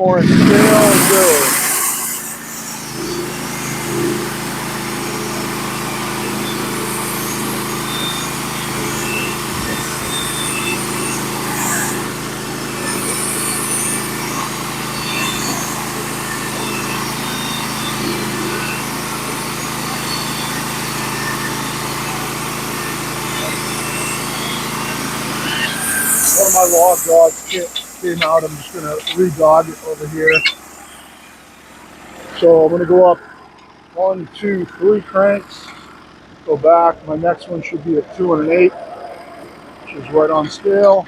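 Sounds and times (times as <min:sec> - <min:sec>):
saw cutting wood: 0:00.0 - 0:41.0
small engine running under load: 0:00.0 - 0:41.0.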